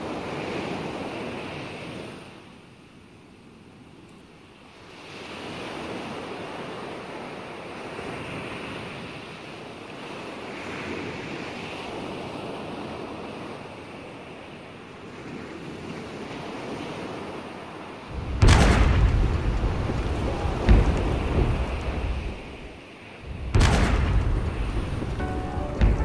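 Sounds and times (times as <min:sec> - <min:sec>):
waves washing onto sandy beach: 0:00.0 - 0:26.0.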